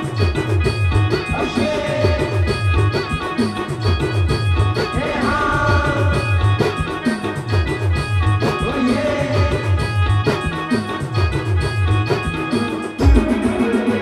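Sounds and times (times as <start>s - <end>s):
keyboard melody: 0.0s - 14.0s
repeating drum beat: 0.0s - 14.0s.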